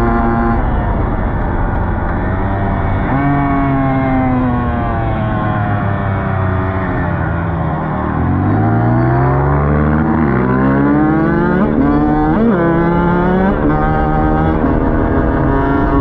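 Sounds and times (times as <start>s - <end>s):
dirt bike engine accelerating: 0.0s - 16.0s.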